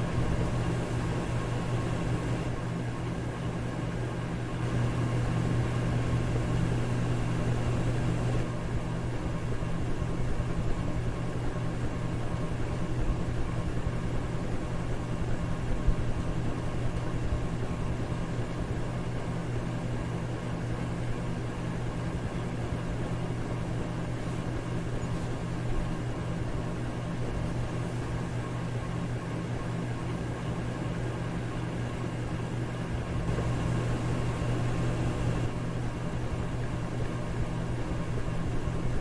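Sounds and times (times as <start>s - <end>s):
electric fan running: 0.0s - 39.0s.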